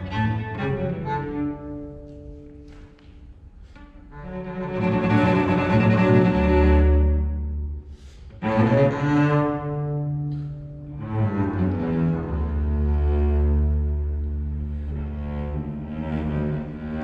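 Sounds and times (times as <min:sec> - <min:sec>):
cello and double bass duet: 0:00.0 - 0:17.0.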